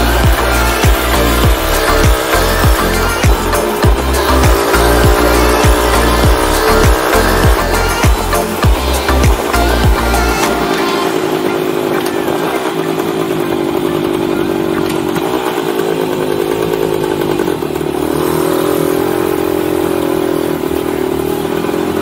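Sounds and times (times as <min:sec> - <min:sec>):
two-stroke motorbike engine running: 0:00.0 - 0:22.0.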